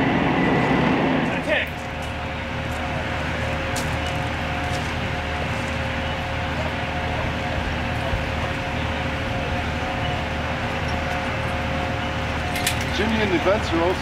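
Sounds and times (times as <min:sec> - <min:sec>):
engines and pumps droning: 0:00.0 - 0:14.0.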